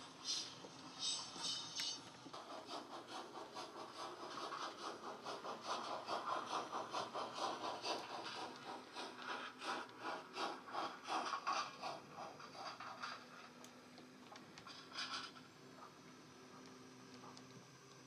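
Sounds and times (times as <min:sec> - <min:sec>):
steam locomotive exhaust chuffs: 0:00.0 - 0:18.0.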